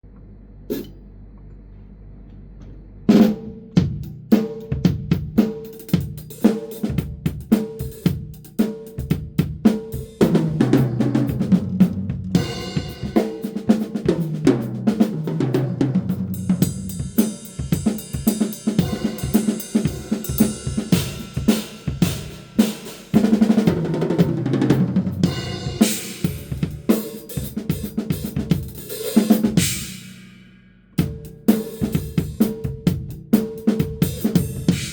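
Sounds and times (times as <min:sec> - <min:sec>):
cymbals and hi-hat: 0:03.1 - 0:34.9
kick and snare beat: 0:03.2 - 0:30.1, 0:31.0 - 0:34.9.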